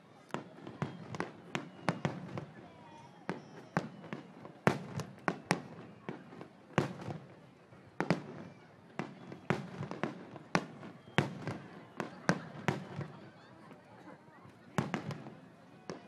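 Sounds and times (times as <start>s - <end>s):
fireworks bursting: 0.3s - 13.5s, 14.8s - 16.0s.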